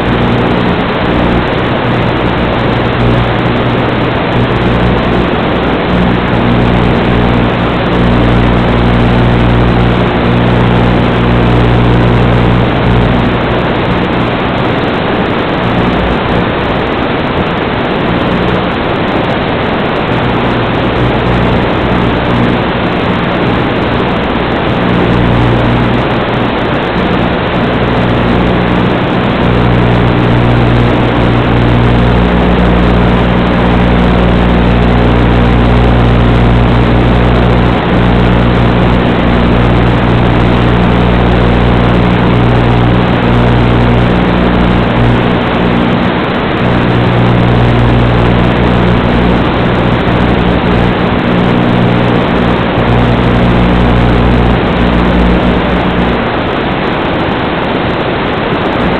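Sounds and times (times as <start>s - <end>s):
low static buzz: 0.0s - 58.9s
static hiss: 0.0s - 58.9s.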